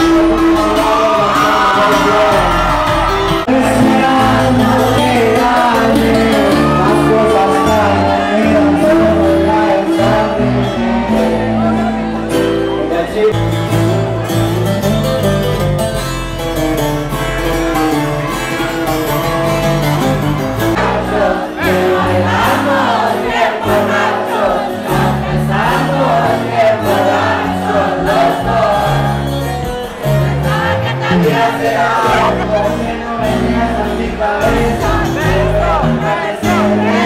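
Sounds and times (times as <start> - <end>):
crowd singing along: 0.0 - 14.8, 15.9 - 37.0
live band with guitars: 0.0 - 37.0.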